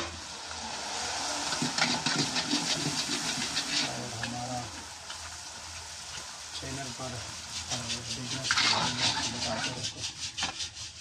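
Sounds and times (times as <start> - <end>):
deep-frying sizzle and crackle: 0.0 - 11.0.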